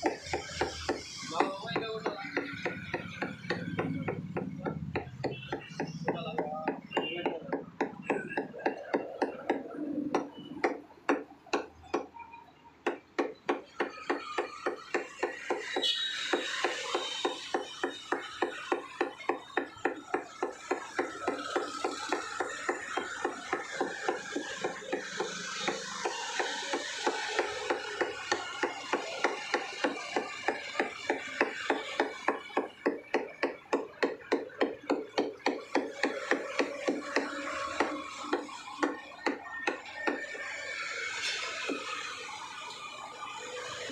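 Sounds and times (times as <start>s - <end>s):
cleaver chopping on wooden block: 0.0s - 12.1s, 12.8s - 40.9s.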